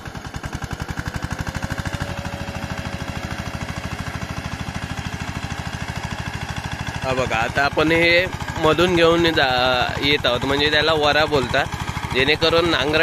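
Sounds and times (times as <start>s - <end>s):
tiller diesel engine under load: 0.0s - 13.0s.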